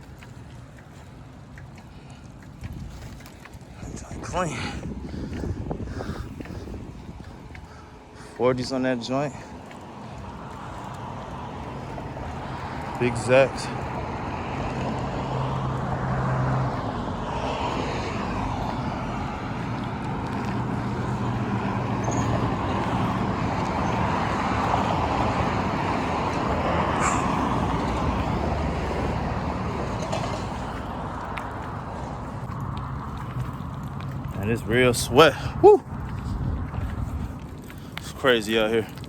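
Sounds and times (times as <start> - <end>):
low engine hum: 0.0 - 39.0
road traffic passing: 0.0 - 39.0.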